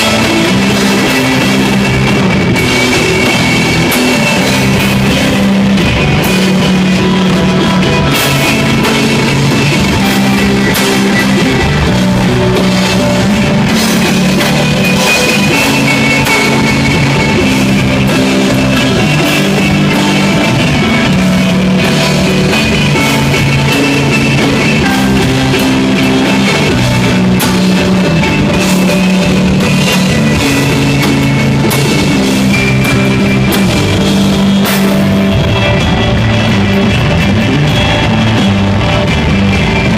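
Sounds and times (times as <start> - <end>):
drum kit: 0.0 - 39.9
electric bass long low notes: 0.0 - 39.9
electric guitar: 0.0 - 39.9.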